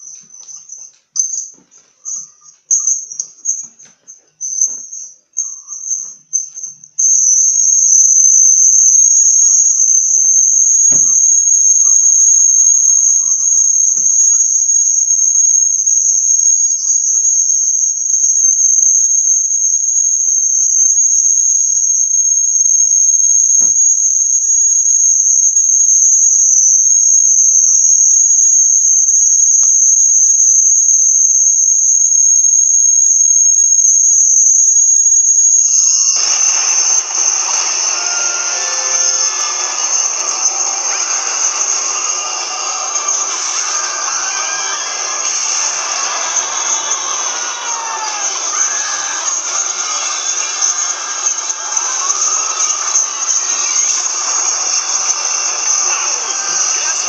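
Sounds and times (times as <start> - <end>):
high-pitched cricket trill: 0.0 - 57.0.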